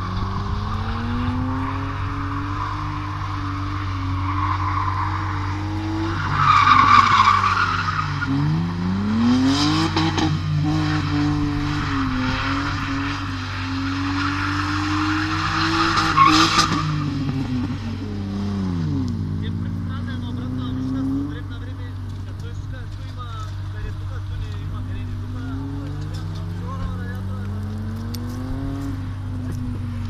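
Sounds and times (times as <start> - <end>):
car engine at high revs: 0.0 - 30.0
tyres skidding on tarmac: 0.0 - 30.0.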